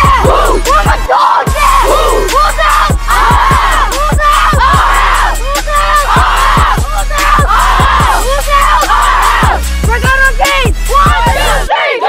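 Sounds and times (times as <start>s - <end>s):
music with deep steady beat: 0.0s - 11.7s.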